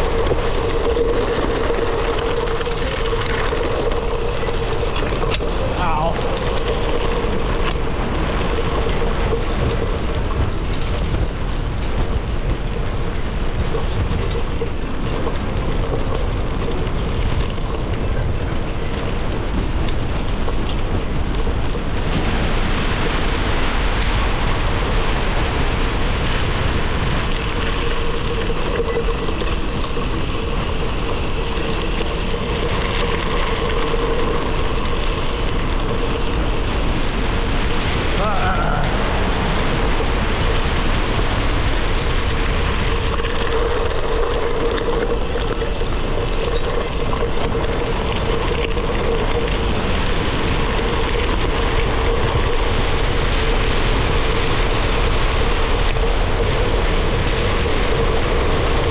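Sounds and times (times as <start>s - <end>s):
bike tyres rumbling on gravel: 0.0s - 58.9s
wind on microphone: 0.0s - 58.9s.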